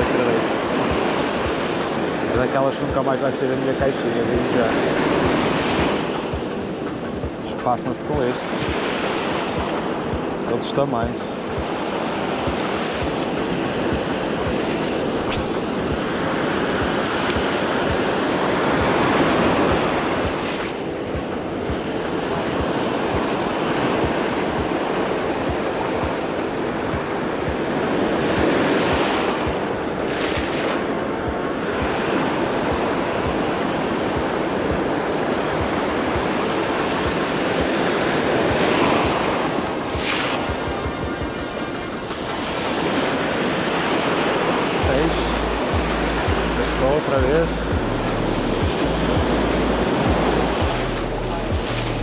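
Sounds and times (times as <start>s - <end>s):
surf breaking on beach: 0.0s - 47.5s
wind buffeting microphone: 0.0s - 52.0s.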